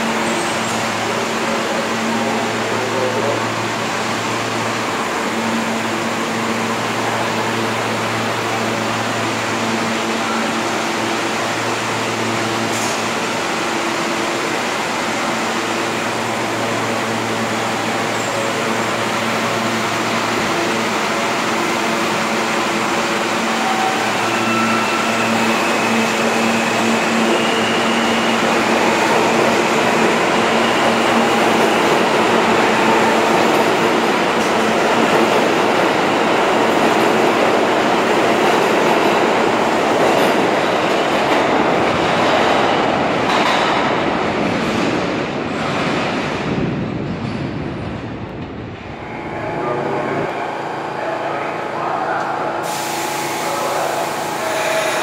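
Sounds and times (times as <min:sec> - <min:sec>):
rush of moving train cars: 0:00.0 - 0:55.0.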